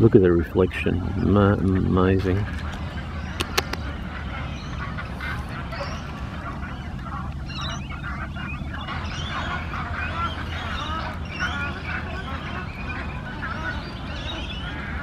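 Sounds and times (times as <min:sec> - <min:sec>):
waterbirds honking and squawking: 0:00.0 - 0:15.0.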